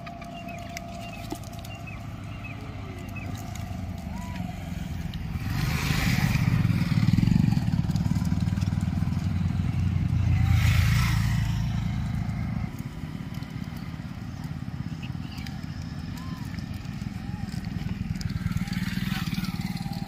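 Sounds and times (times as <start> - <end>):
motorcycles passing: 0.0 - 20.0.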